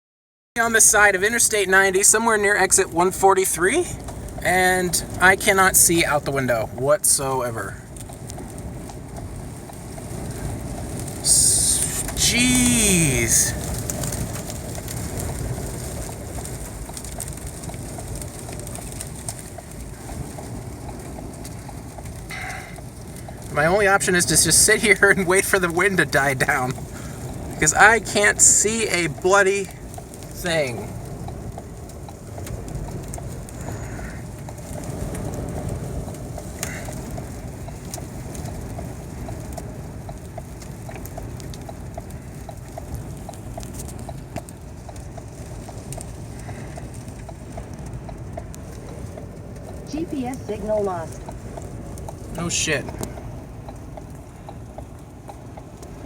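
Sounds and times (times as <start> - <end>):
storm wind buffeting a car: 0.6 - 56.0
hazard flasher ticking: 8.0 - 56.0.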